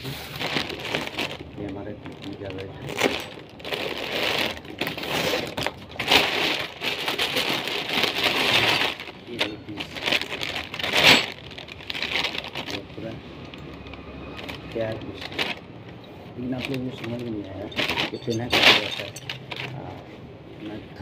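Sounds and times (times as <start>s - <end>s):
plastic packaging crinkling: 0.0s - 19.9s.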